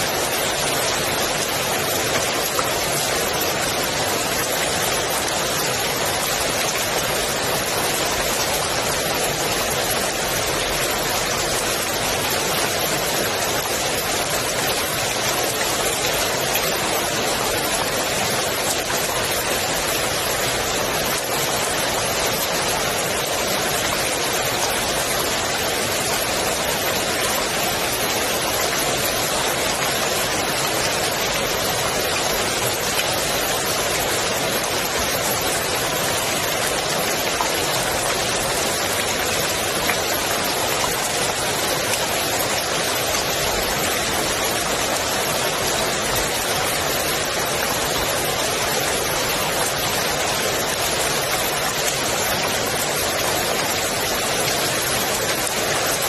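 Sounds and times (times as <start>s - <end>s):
rain falling on pool water: 0.0s - 56.0s.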